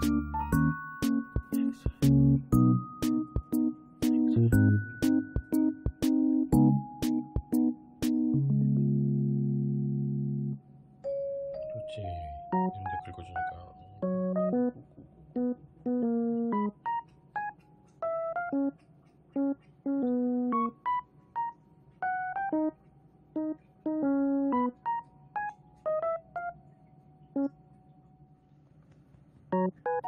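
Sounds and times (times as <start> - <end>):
electric piano tune: 0.0 - 28.1, 29.5 - 30.0.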